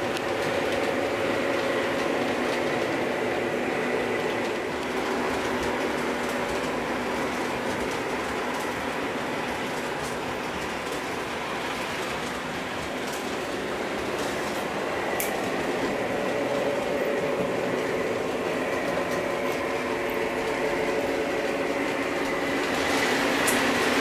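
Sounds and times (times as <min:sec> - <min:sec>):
model train wheels rumbling: 0:00.0 - 0:24.0.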